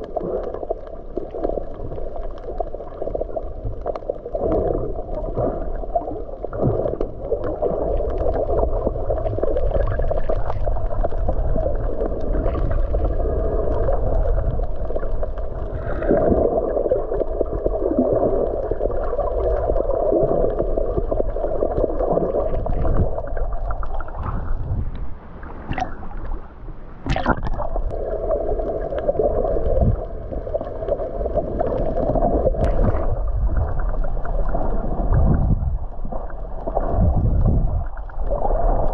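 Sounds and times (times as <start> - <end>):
deep rumble: 0.0 - 38.9
rushing and gurgling water: 0.0 - 38.9.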